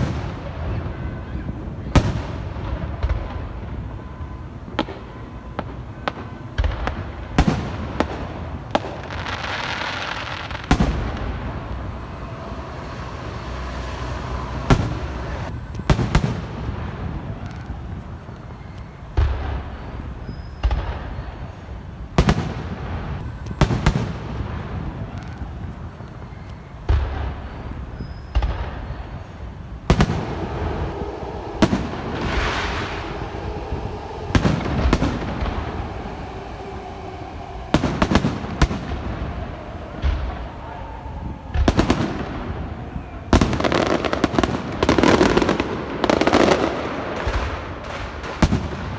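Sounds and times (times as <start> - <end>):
crackling firework hiss: 0.0 - 48.9
firework shells bursting with bangs: 0.0 - 48.9.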